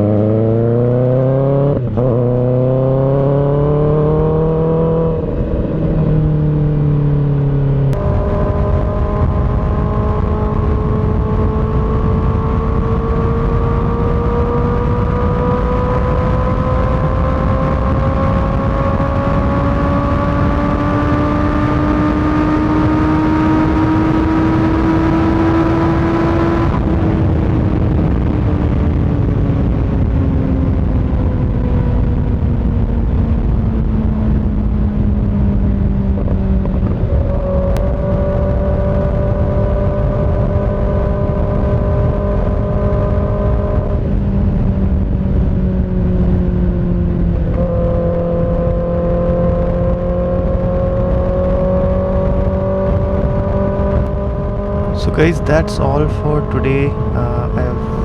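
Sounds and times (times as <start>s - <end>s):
motorcycle engine at speed: 0.0s - 58.0s
wind noise: 0.0s - 58.0s.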